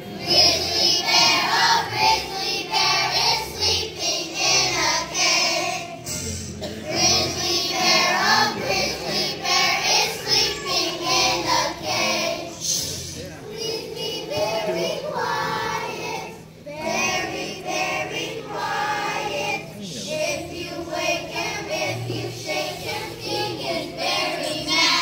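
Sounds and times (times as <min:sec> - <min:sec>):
children's choir singing: 0:00.0 - 0:25.0.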